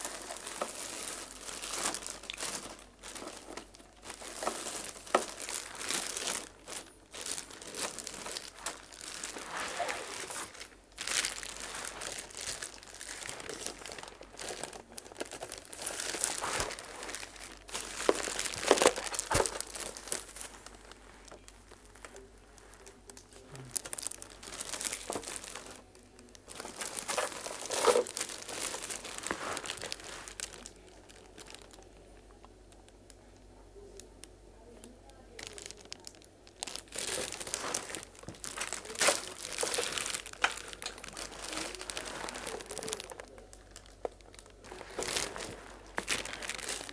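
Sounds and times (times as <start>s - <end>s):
plastic wrapping crinkling: 0.0s - 46.9s.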